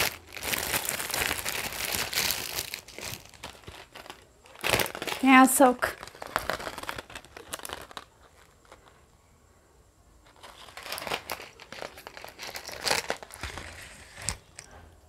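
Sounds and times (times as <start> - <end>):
packaging crinkling: 0.0 - 9.2, 10.2 - 14.7.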